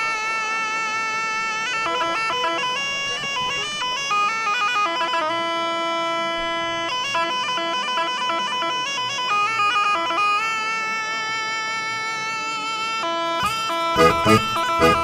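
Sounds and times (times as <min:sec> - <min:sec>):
bagpipe dance tune: 0:00.0 - 0:15.0.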